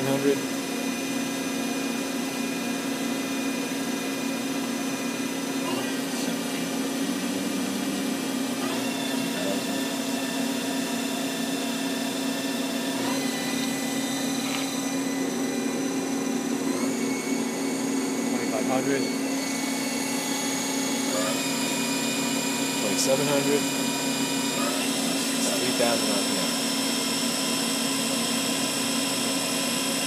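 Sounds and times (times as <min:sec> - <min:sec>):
lathe spindle hum and whine: 0:00.0 - 0:30.0.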